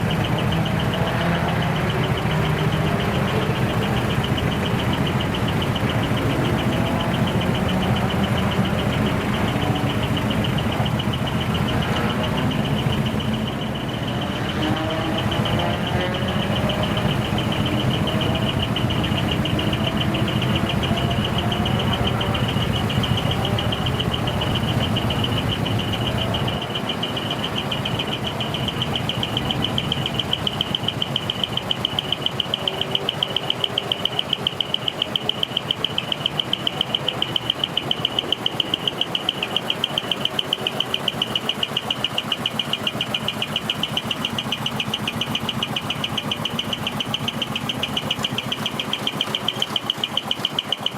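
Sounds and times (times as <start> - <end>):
regular pulsing: 0.0 - 50.9
truck engine running: 0.0 - 50.9.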